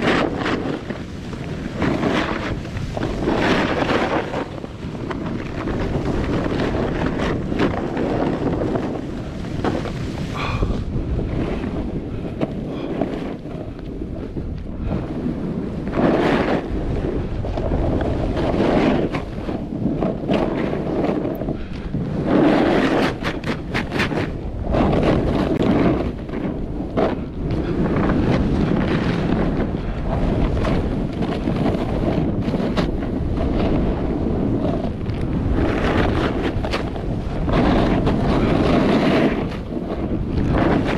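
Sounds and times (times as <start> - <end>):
snowboard scraping through snow: 0.0 - 40.9
wind buffeting microphone: 0.0 - 40.9.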